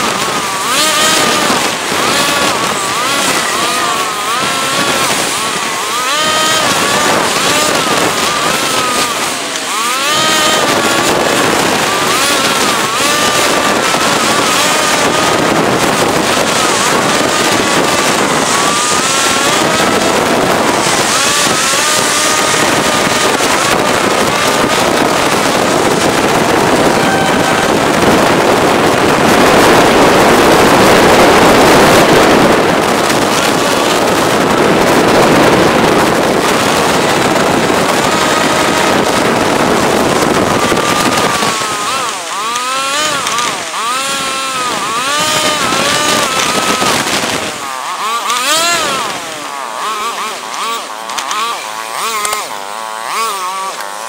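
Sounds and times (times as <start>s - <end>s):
scooter engine running: 0.0s - 54.0s
wind and road noise: 0.0s - 54.0s.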